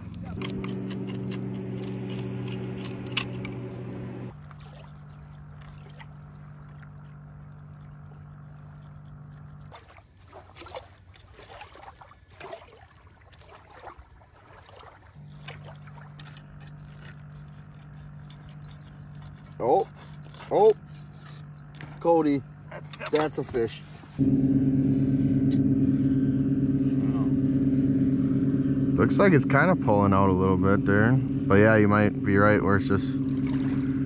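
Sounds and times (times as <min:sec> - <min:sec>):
steady low hum: 0:00.0 - 0:11.1, 0:15.1 - 0:34.0.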